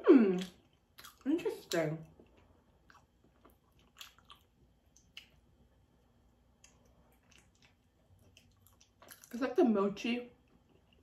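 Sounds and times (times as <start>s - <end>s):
soft chewing mouth sounds: 0.2s - 9.5s, 10.3s - 11.0s.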